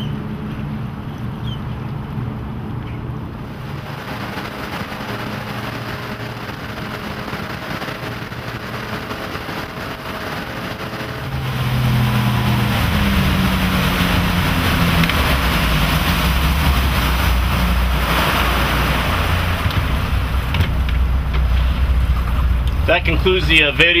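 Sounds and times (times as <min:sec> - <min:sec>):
boat engines running: 0:00.0 - 0:24.0
water rushing past hull: 0:00.0 - 0:24.0
wind rushing: 0:03.3 - 0:22.6.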